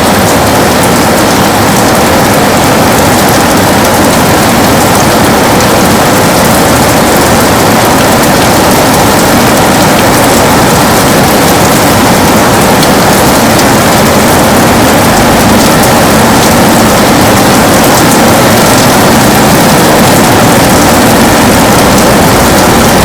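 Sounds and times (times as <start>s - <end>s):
heavy rain on a window: 0.0s - 23.0s.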